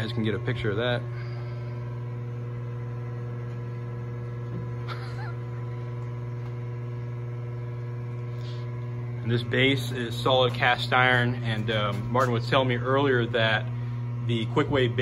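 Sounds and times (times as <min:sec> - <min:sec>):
grinder motor humming: 0:00.0 - 0:15.0.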